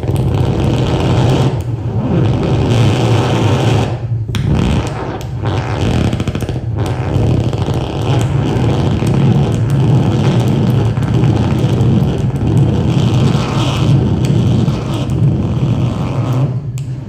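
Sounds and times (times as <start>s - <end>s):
low amplifier hum: 0.0s - 17.0s
noisy electric guitar drone: 0.0s - 17.0s.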